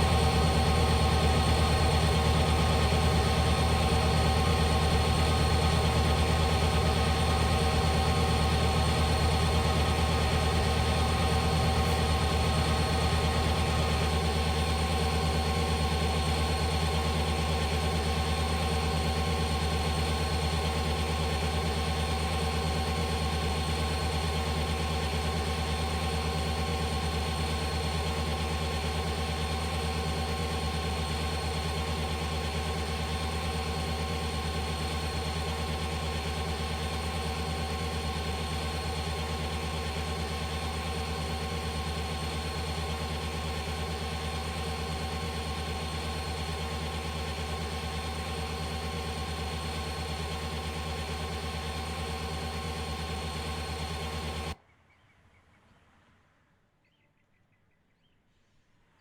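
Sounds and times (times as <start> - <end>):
engine idling with whine: 0.0 - 54.6.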